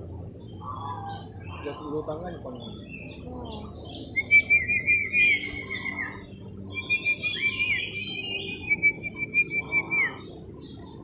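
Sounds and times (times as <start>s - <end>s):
bird singing warbling trills: 0.0s - 11.0s.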